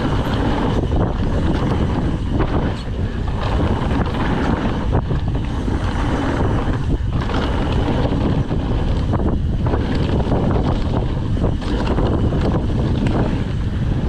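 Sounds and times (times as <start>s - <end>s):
bike knocks and rattles: 0.0s - 14.0s
tyre noise on wet dirt: 0.0s - 14.0s
wind buffeting microphone: 0.0s - 14.0s.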